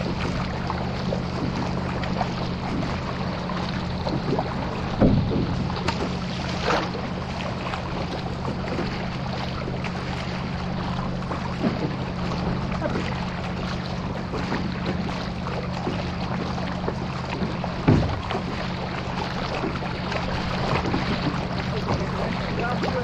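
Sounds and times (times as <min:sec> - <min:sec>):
paddle splashes: 0:00.0 - 0:23.0
steady low hum: 0:00.0 - 0:23.0
water rushing against hull: 0:00.0 - 0:23.0.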